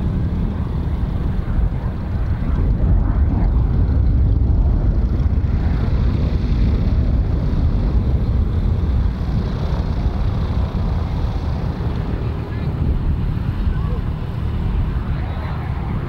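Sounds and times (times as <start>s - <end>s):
aircraft engines rumbling: 0.0s - 16.0s.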